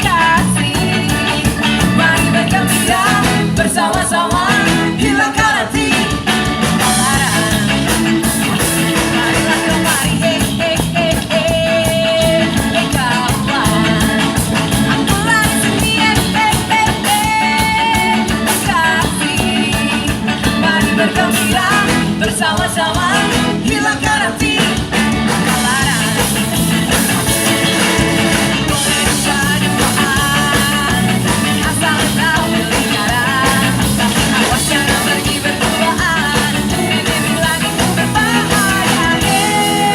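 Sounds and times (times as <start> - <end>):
drum beat: 0.0 - 39.9
person singing: 0.0 - 39.9
ska band playing: 0.0 - 39.9.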